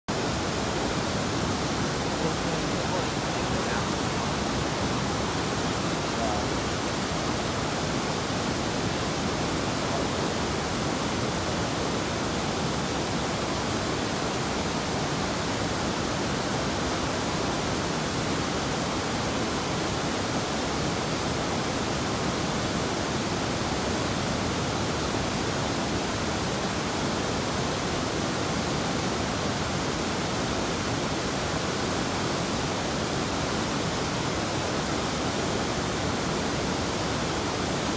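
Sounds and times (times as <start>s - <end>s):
river water rushing over rapids: 0.1s - 37.9s.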